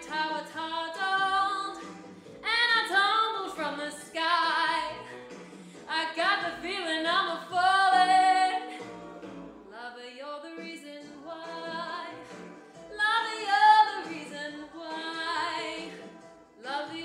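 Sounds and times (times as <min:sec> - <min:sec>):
woman singing slow song: 0:00.0 - 0:01.8, 0:02.4 - 0:05.2, 0:05.8 - 0:09.0, 0:09.7 - 0:17.0
instrumental accompaniment: 0:00.0 - 0:17.0.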